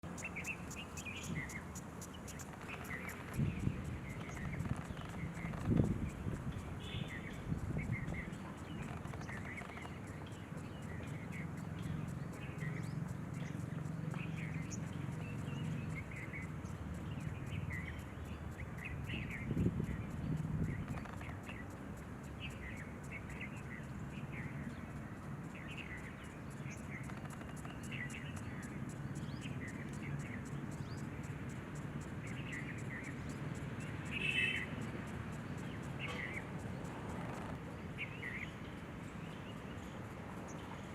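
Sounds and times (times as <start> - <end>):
fast high ticking: 0.0 - 37.8
small birds chirping: 0.0 - 40.9.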